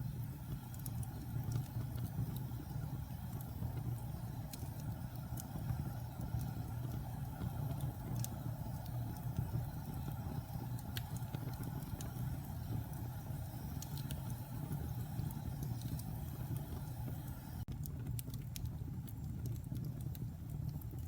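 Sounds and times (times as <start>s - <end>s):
crackles and pops of burning logs: 0.0s - 21.0s
low rumble of flames: 0.0s - 21.0s.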